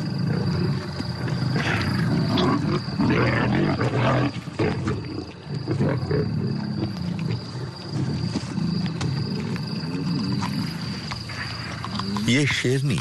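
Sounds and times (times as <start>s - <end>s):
lions growling: 0.0s - 12.6s.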